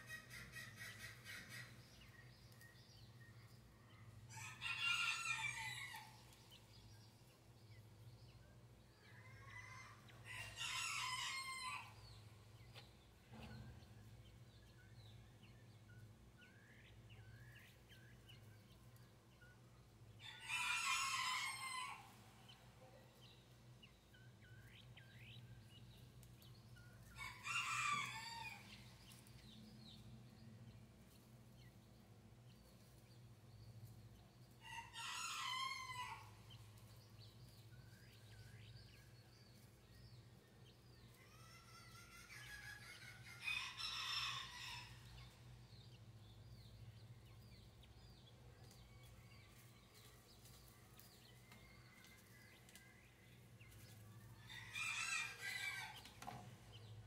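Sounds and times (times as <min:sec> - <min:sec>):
quail chicks peeping: 0:00.0 - 0:57.0.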